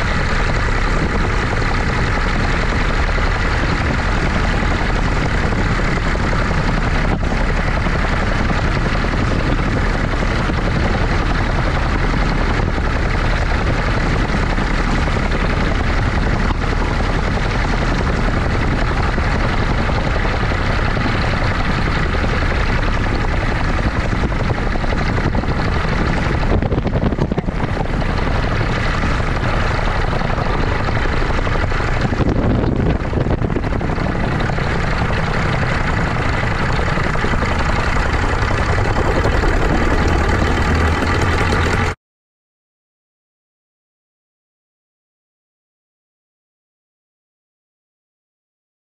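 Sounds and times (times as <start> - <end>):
wind and rotor noise: 0.0 - 42.0.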